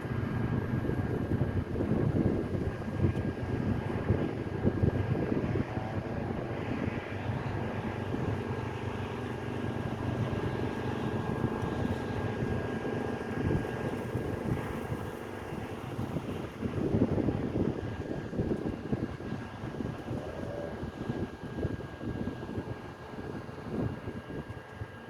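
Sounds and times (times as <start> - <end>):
engine running: 0.0 - 25.0
wind gusts on microphone: 0.0 - 25.0.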